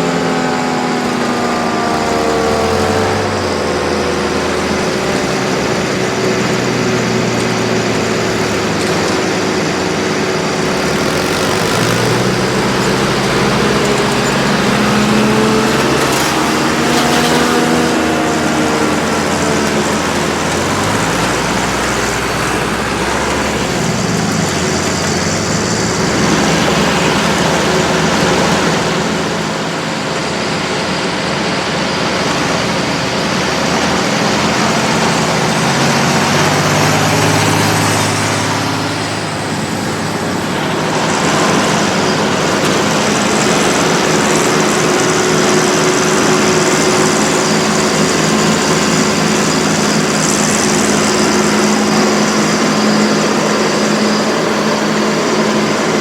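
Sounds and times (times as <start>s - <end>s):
forage harvester running: 0.0s - 56.0s
tractor engines under load: 0.0s - 56.0s.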